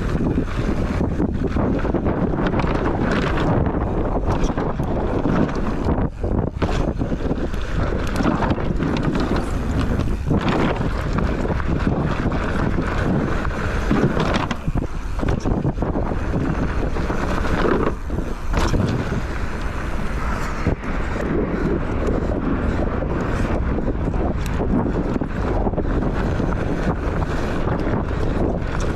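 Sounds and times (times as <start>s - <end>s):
bike knocks and rattles: 0.0s - 28.9s
wind buffeting microphone: 0.0s - 28.9s.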